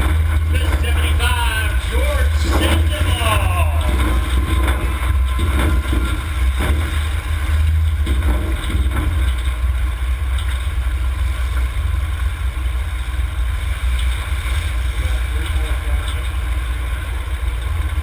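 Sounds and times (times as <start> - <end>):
car engines running: 0.0 - 18.0.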